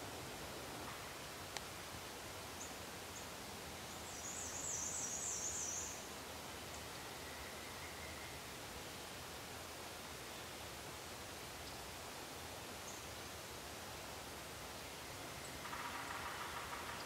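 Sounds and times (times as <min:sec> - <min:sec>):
steady woodland hiss: 0:00.0 - 0:17.0.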